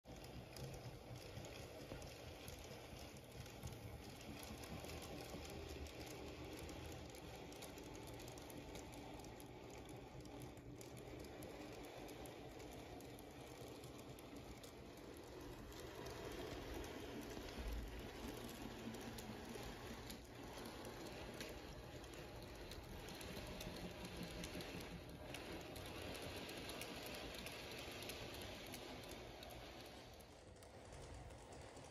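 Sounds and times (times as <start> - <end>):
model train wheels clicking: 0.0 - 31.9.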